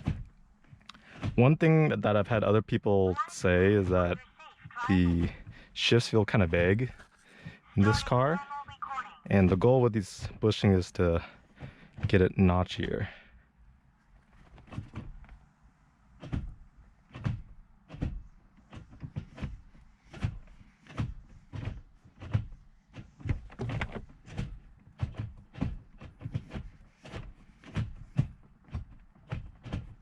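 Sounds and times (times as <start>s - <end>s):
gear shifter clunks and clicks: 0.0s - 13.4s, 14.0s - 30.0s.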